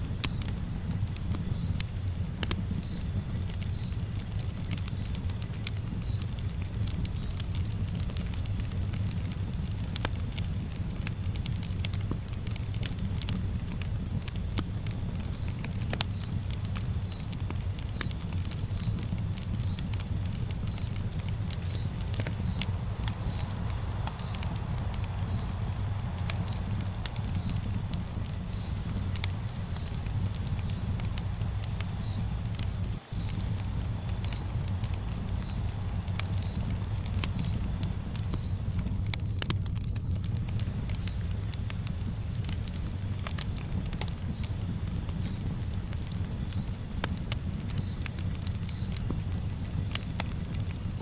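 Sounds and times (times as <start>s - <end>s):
campfire rumble: 0.0s - 51.0s
wood crackling and popping: 0.0s - 51.0s.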